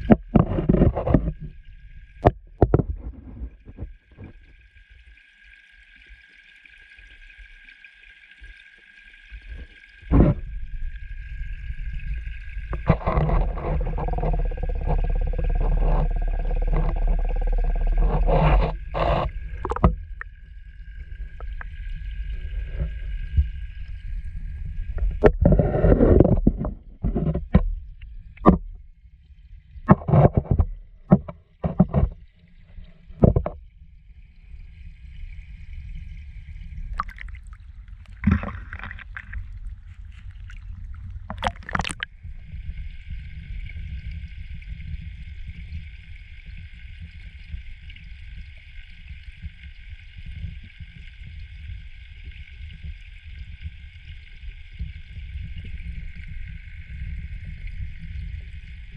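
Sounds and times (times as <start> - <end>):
muffled underwater rumble: 0.0 - 58.9.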